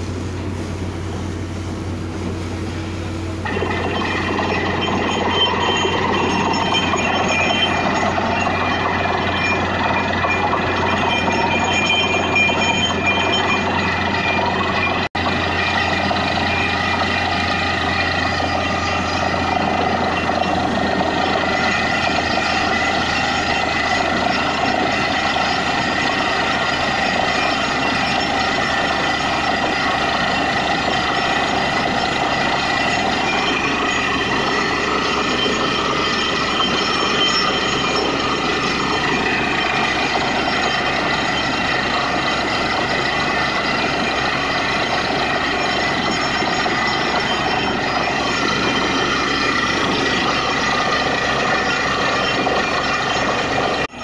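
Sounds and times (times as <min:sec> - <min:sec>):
drilling rig engine and compressor: 0:00.0 - 0:54.0
steady high whine: 0:00.0 - 0:54.0
water and slurry gushing: 0:00.0 - 0:54.0.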